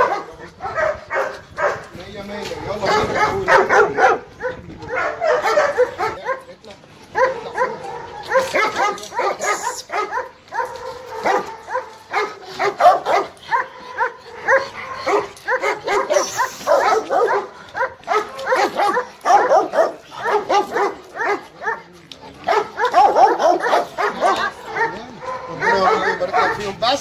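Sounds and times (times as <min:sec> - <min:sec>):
dogs barking excitedly: 0:00.0 - 0:27.0.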